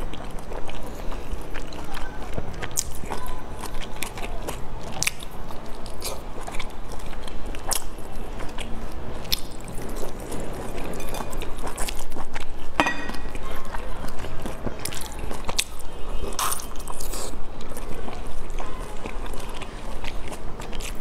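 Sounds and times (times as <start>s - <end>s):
biting and chewing dumplings: 0.0s - 21.0s.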